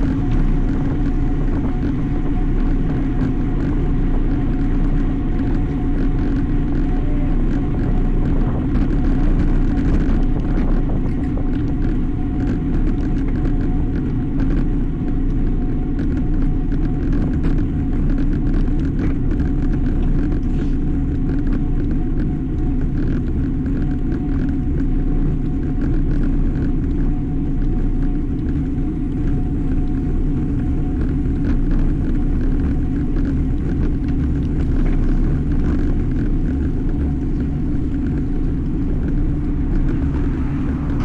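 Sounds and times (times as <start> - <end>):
faint steady hum: 0.0 - 41.0
road rumble: 0.0 - 41.0
wind on microphone: 0.0 - 41.0.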